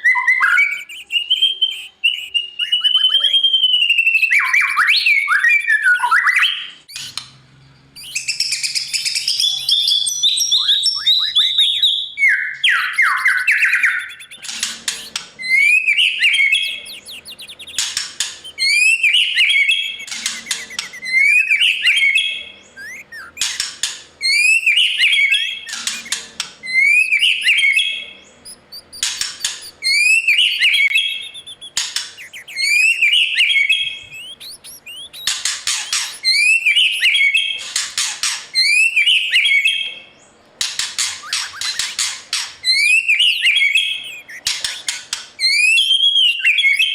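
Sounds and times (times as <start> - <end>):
shama singing whistled phrases: 0.0 - 7.2, 8.0 - 23.6, 24.2 - 37.5, 41.1 - 42.1, 42.7 - 46.9.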